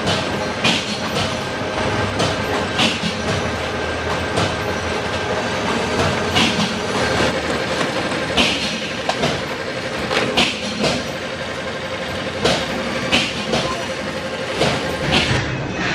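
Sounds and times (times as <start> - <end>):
factory machinery din: 0.0 - 15.9.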